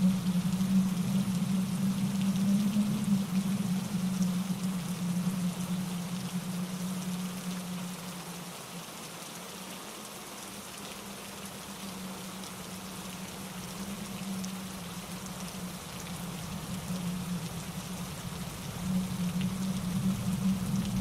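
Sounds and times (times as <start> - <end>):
low steady drone: 0.0 - 9.2, 10.3 - 21.0
rain falling on leaves: 0.0 - 21.0.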